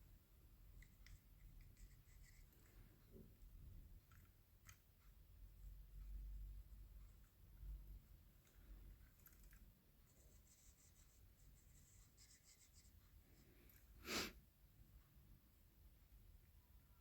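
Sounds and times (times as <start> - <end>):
paint pen ticking and scratching: 0.0 - 13.9.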